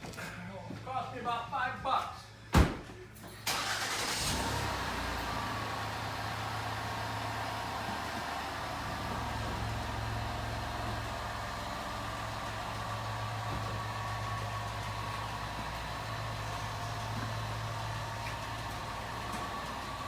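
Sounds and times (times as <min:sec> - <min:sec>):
car engine idling: 0:03.5 - 0:20.0.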